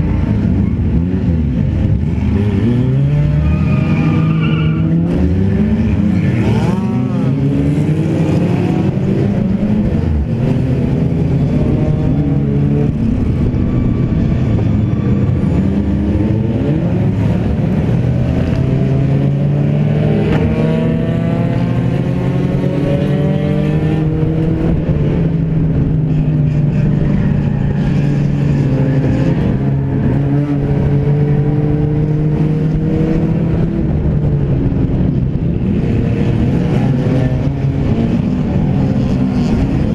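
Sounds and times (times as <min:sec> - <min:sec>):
car engine racing: 0:00.0 - 0:39.9
other race car engines: 0:00.0 - 0:39.9.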